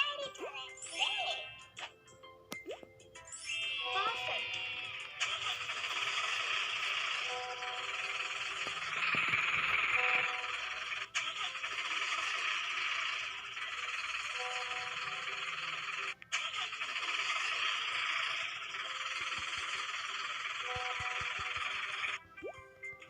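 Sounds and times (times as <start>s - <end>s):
toy vehicle motor whirring: 3.4s - 22.3s.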